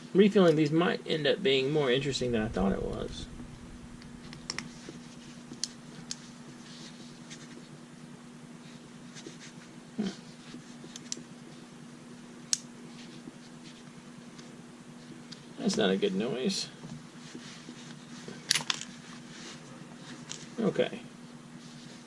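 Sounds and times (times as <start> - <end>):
steady low hum: 0.9 - 22.0.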